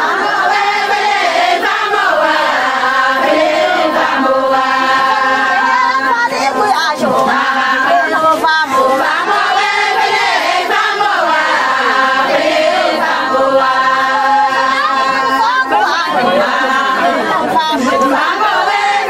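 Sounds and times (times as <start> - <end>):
group of voices chanting: 0.0 - 19.0.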